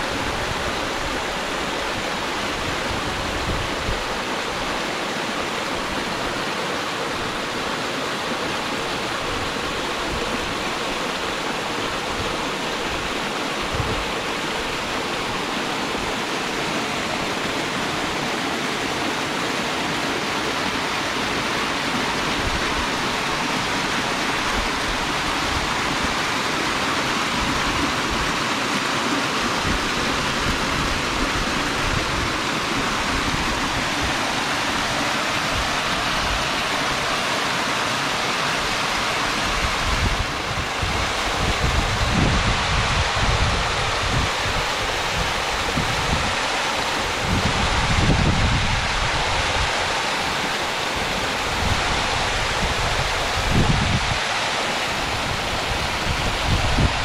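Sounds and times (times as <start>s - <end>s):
creek water rushing over falls: 0.0s - 57.0s.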